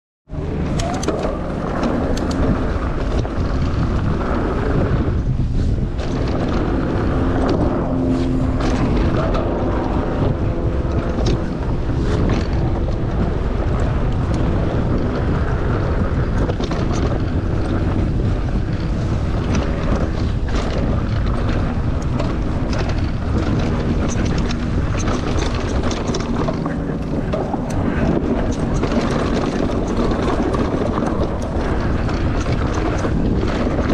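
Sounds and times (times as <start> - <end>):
bike rumbling on dirt trail: 0.3 - 33.9
wind buffeting microphone: 0.3 - 33.9
bike clicks and knocks: 0.4 - 33.9.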